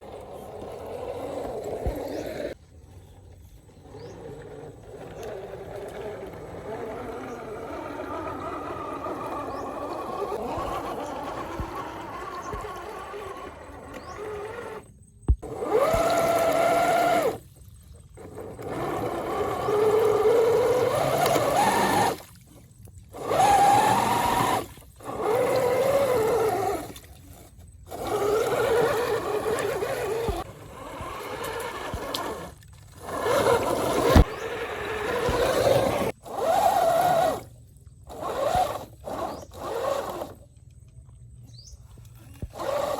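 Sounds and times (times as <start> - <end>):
electric motor whining: 0.0 - 2.6, 3.7 - 17.5, 18.1 - 22.4, 23.1 - 40.4, 42.3 - 42.9.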